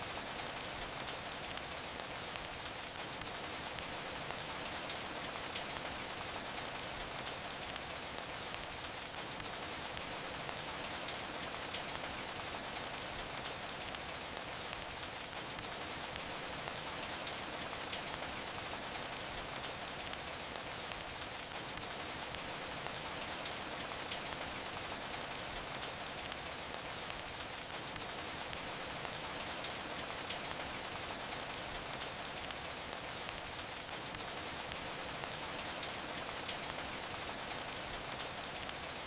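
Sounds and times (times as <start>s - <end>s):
steady rain falling: 0.0s - 39.0s
wood fire crackling: 0.0s - 39.0s.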